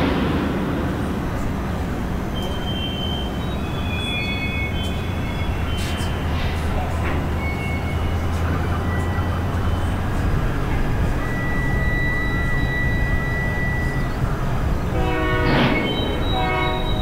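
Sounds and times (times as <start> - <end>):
freight car wheels squealing: 0.0 - 17.0
locomotive horn chord: 0.0 - 17.0
low rumble: 0.0 - 17.0.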